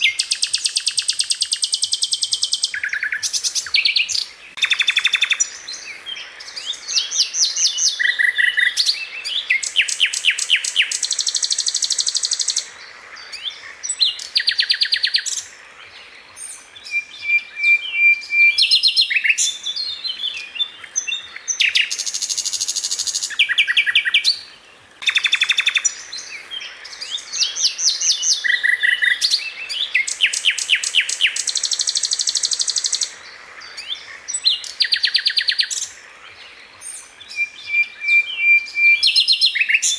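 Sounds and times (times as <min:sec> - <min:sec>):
flycatcher singing trills: 0:00.0 - 0:39.9.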